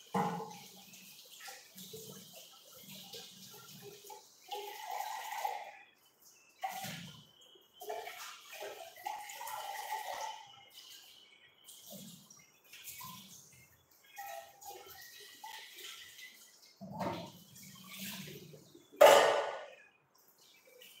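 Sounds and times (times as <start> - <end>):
kitchen tap water running: 0.0 - 21.0.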